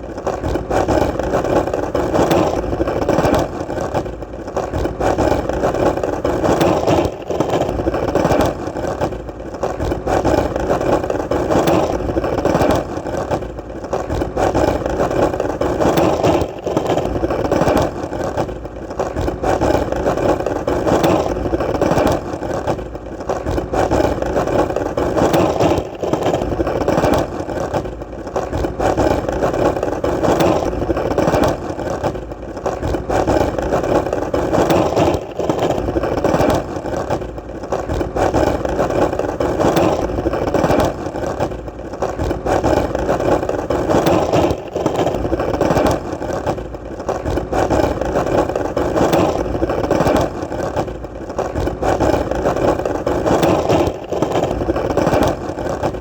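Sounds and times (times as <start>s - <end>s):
skateboard wheels rolling: 0.0s - 56.0s.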